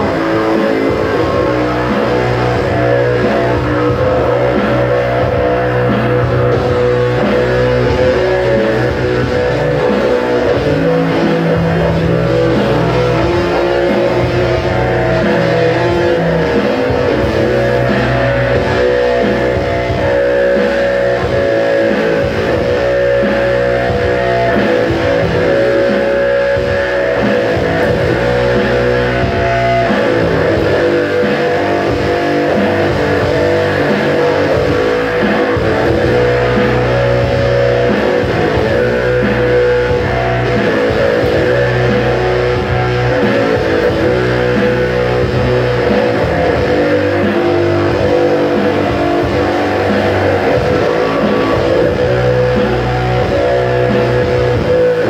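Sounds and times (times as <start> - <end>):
electric guitar rock riff: 0.0 - 55.0.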